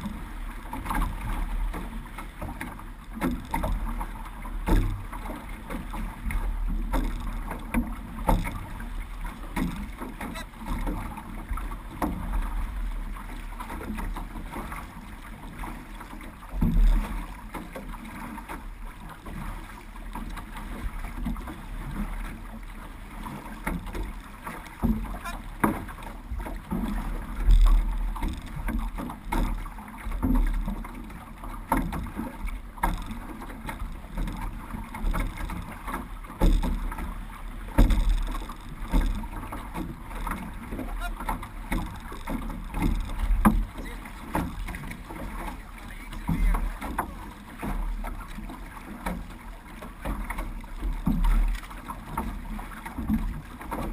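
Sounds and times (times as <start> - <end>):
paddles dipping in water: 0.0 - 53.9
water washing past hull: 0.0 - 53.9.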